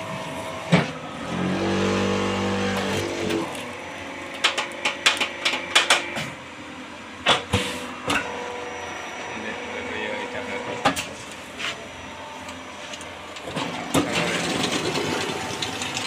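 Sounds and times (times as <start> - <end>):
steady motor hum: 0.0 - 16.0.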